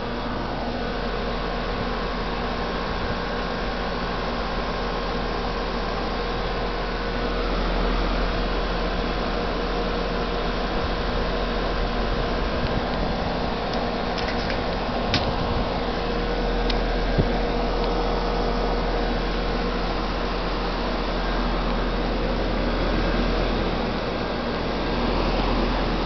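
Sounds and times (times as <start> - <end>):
heat pump fan and compressor hum: 0.0 - 26.0.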